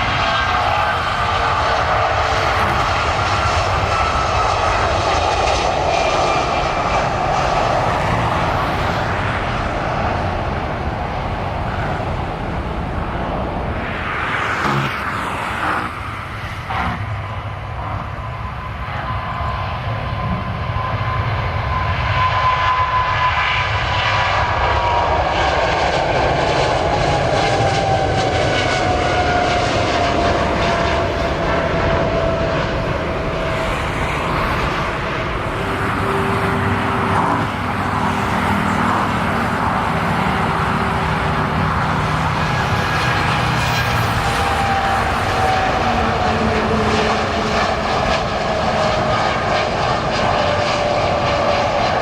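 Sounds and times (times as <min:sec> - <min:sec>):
jet airliner passing by: 0:00.0 - 0:52.0.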